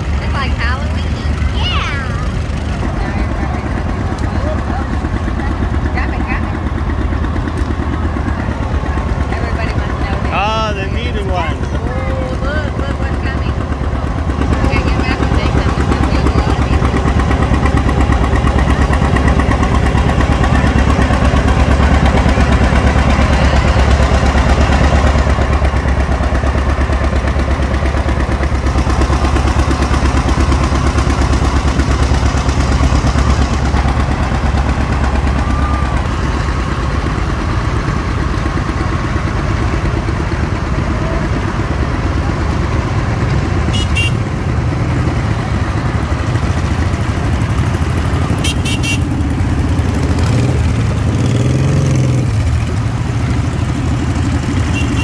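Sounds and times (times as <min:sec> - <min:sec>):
small motorcycle engines passing: 0:00.0 - 0:55.0
tractor engine running: 0:00.0 - 0:55.0.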